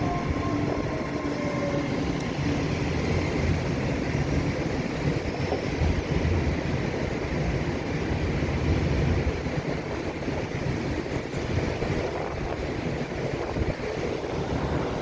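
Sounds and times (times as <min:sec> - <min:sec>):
train low rumble: 0:00.0 - 0:15.0
wind buffeting microphone: 0:00.0 - 0:15.0.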